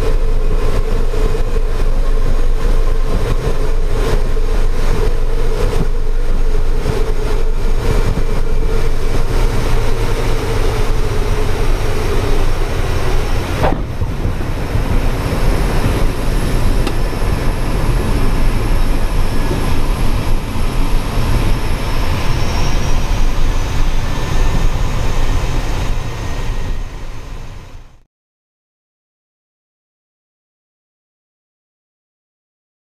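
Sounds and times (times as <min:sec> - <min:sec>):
steady propeller tone: 0:00.0 - 0:28.0
turboprop engine in cockpit: 0:00.0 - 0:28.0
wind rush: 0:00.0 - 0:28.0.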